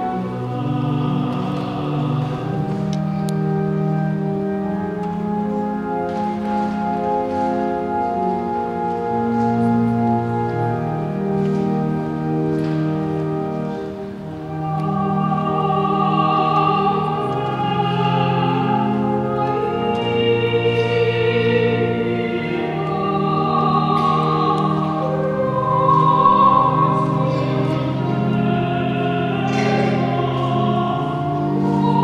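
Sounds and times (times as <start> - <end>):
classical-style singing: 0.0 - 32.0
organ accompaniment: 0.0 - 32.0.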